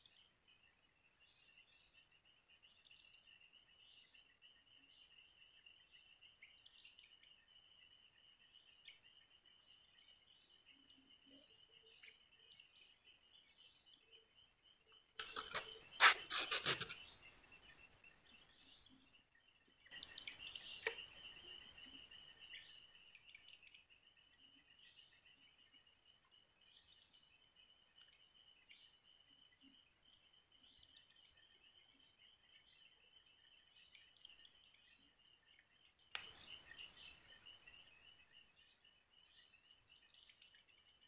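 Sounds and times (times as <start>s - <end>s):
night insects chirping: 0.0s - 41.0s.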